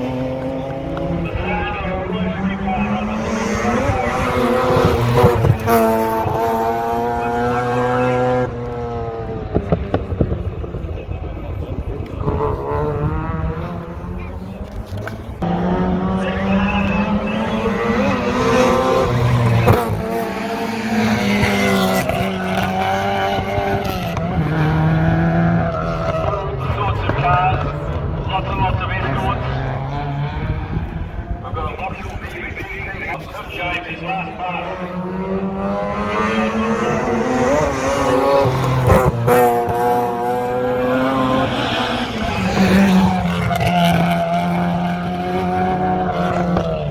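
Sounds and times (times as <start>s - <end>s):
rally car engine running hard: 0.0s - 46.9s.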